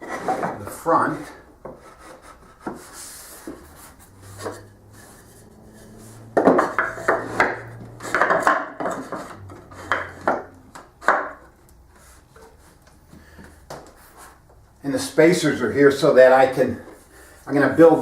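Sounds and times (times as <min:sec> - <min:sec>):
wooden blocks scraping and knocking: 0:00.0 - 0:14.6.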